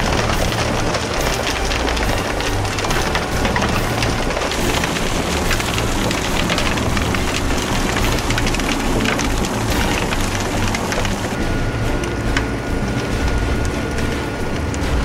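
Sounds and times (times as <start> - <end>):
ballast stones crackling and rattling: 0.0 - 15.0
excavator engine running: 0.0 - 15.0.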